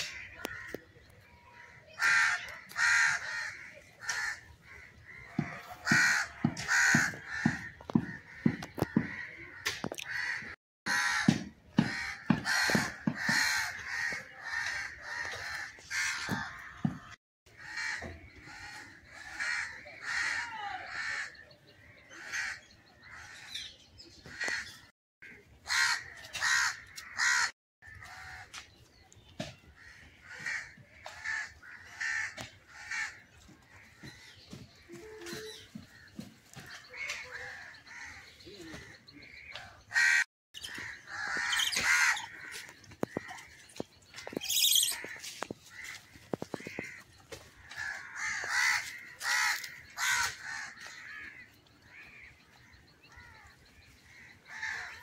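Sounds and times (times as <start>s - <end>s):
crows cawing: 0.0s - 23.6s, 24.3s - 28.6s, 29.8s - 55.0s.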